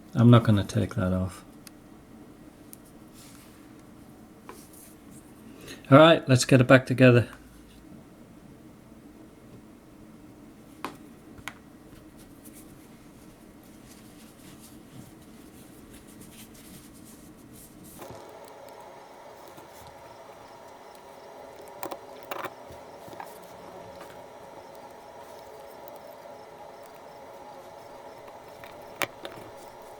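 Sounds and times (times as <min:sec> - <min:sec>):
faint background hum: 0:00.0 - 0:29.9.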